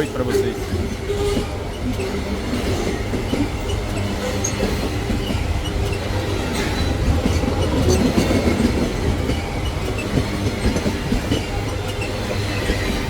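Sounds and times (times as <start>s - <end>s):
freight train wagons rumbling: 0.0s - 13.0s
wheels clattering over rails: 0.0s - 13.0s.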